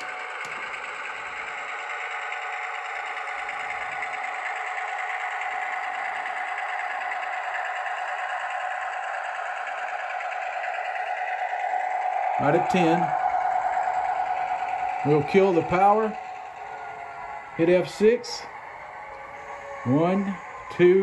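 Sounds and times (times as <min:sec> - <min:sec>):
tinny model diesel engine sound: 0:00.0 - 0:21.0.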